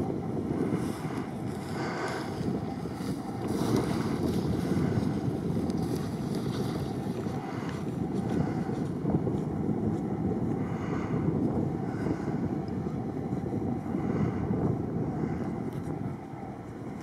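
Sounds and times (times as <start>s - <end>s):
off-road vehicle engine running: 0.0s - 17.0s
wind on microphone: 0.0s - 17.0s.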